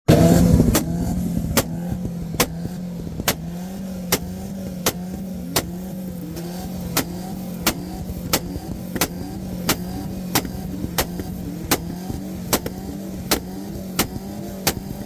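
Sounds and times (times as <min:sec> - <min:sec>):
car engine running: 0:00.0 - 0:15.0
exhaust bangs: 0:00.1 - 0:15.0.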